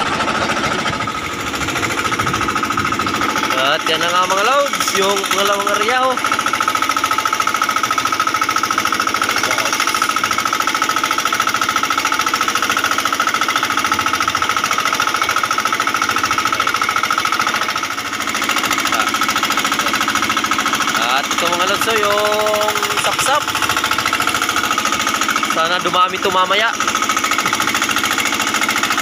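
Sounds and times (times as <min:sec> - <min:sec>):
boat engine knocking: 0:00.0 - 0:29.0.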